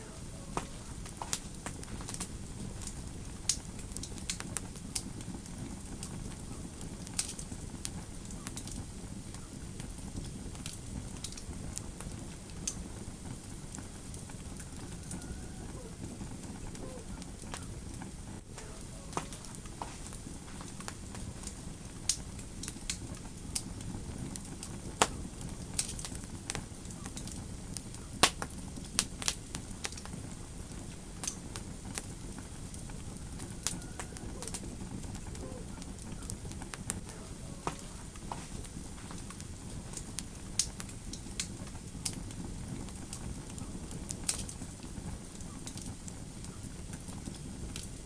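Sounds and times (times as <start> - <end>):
fire crackling and popping: 0.0 - 48.0
low rumble of flames: 0.0 - 48.0.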